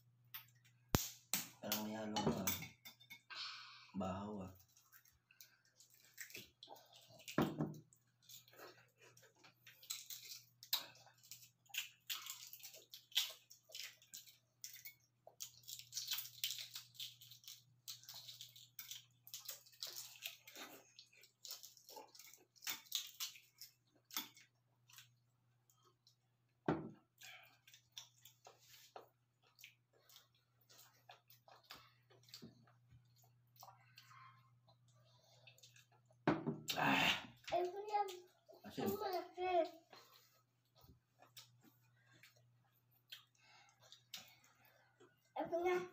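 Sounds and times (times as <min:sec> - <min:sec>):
wet eating sounds: 0:00.1 - 0:45.9.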